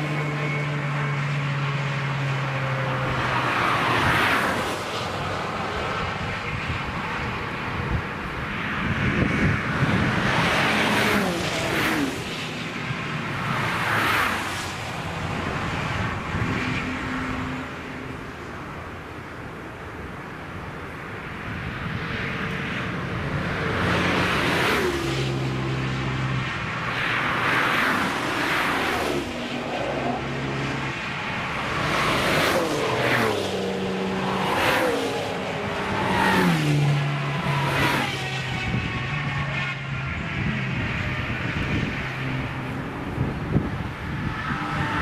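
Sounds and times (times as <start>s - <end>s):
race cars passing at speed: 0.0s - 45.0s.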